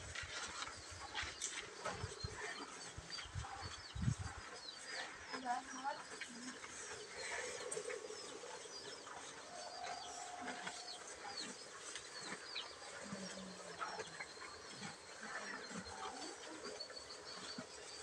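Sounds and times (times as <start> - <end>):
cattle chewing grass: 0.0 - 18.0
small birds chirping: 0.0 - 18.0.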